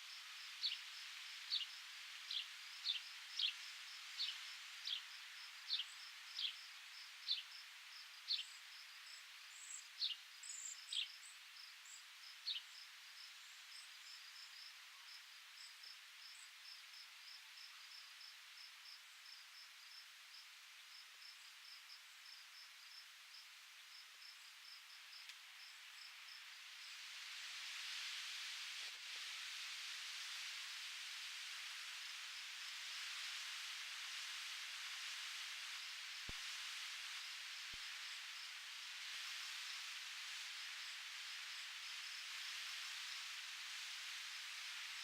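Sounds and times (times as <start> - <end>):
wind hiss: 0.0 - 45.0
cricket chirping: 0.1 - 27.0, 32.1 - 45.0.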